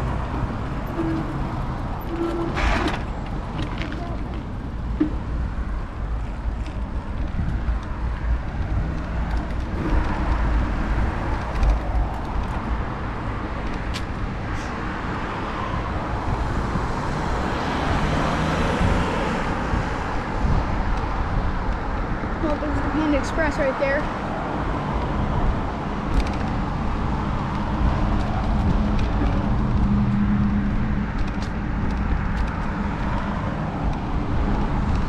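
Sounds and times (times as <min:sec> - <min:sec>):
car traffic passing: 0:00.0 - 0:35.0
wind rumbling on microphone: 0:00.0 - 0:35.0.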